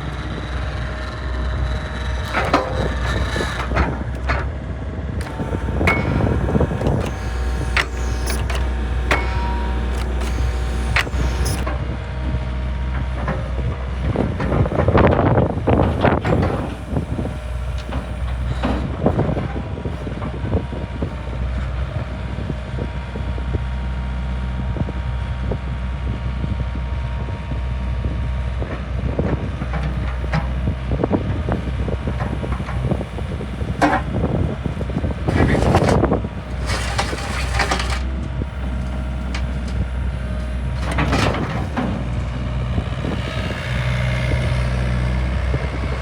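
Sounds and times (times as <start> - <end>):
engine surges and knocks: 0.0 - 46.0
excavator diesel engine running: 0.0 - 46.0.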